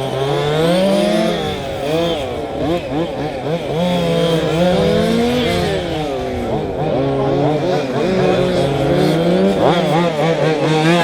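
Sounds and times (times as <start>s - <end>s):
model racing car motors: 0.0s - 11.0s.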